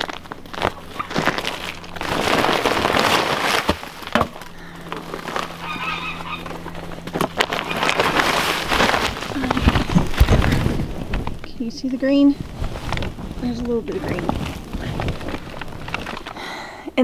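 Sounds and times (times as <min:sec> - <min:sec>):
plastic sheeting rustling: 0:00.0 - 0:16.7.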